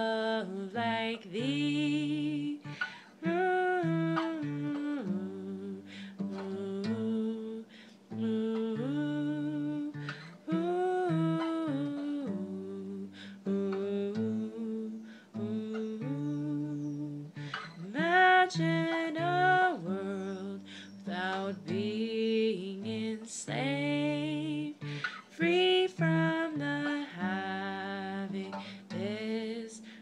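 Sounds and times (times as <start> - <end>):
woman humming: 0.0 - 29.8
plucked acoustic guitar: 0.0 - 30.0.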